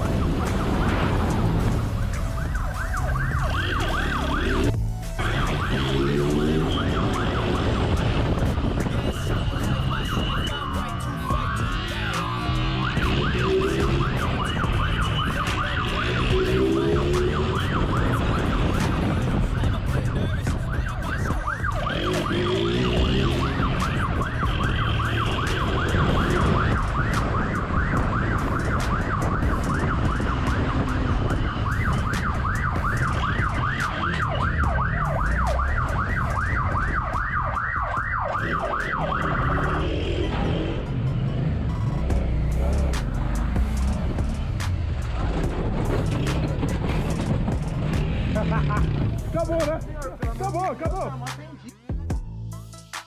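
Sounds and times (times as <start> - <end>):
low vehicle rumble: 0.0 - 50.4
police siren yelping: 0.0 - 50.5.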